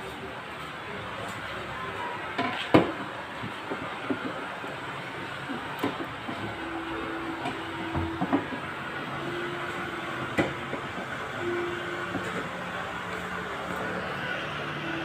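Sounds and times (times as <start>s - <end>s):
washing machine running: 3.0s - 15.0s.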